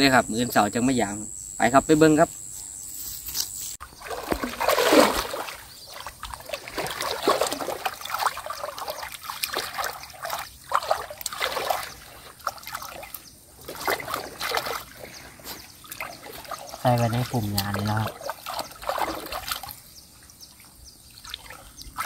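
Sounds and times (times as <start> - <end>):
shallow water splashing: 3.8 - 22.0
wading steps in water: 3.8 - 22.0.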